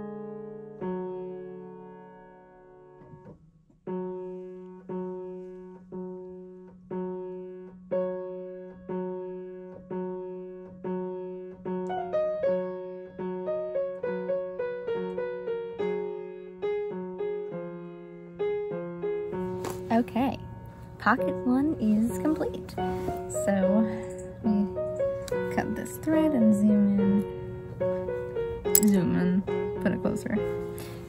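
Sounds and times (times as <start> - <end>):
solo piano piece: 0.0 - 31.0.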